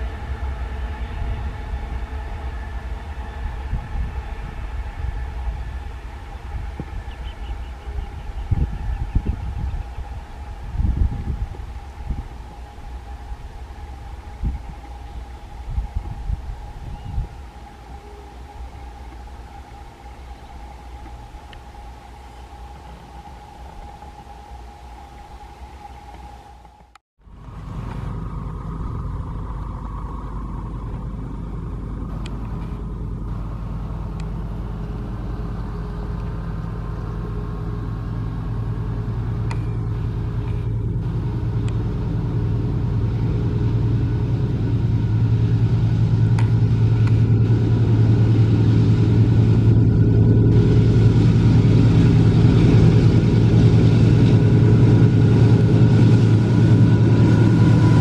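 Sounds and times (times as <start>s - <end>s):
diesel locomotives approaching: 0.0s - 58.0s.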